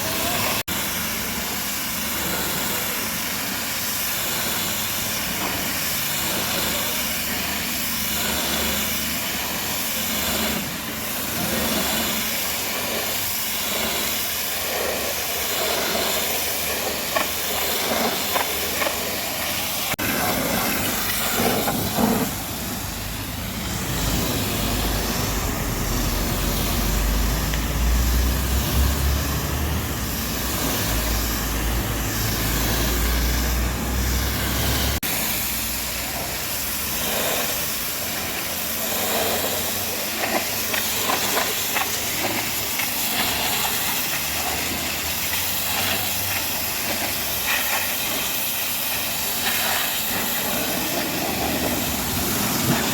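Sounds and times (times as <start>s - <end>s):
pressure washer spraying water: 0.0s - 52.9s.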